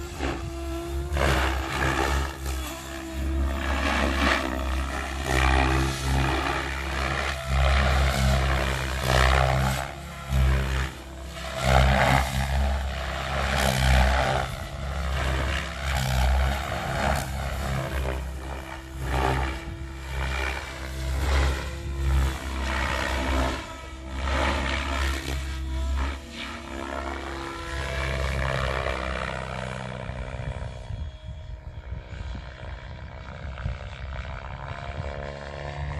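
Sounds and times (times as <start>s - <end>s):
helicopter rotor blades whooshing: 0.0s - 35.9s.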